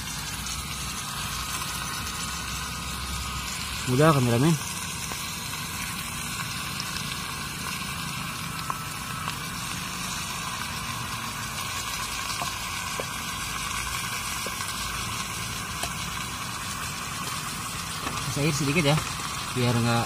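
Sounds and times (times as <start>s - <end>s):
mushrooms sizzling in a frying pan: 0.0s - 20.0s.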